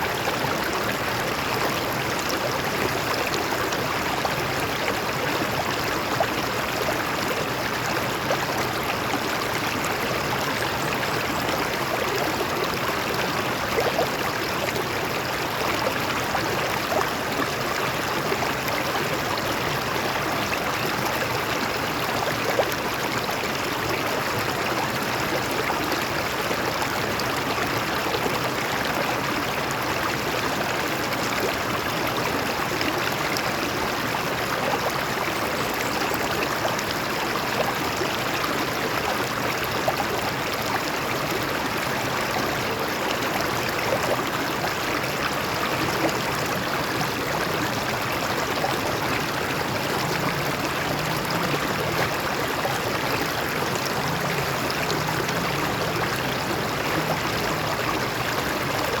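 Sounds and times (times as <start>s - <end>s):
stream flowing over rocks: 0.0s - 59.0s
water gurgling: 0.0s - 59.0s.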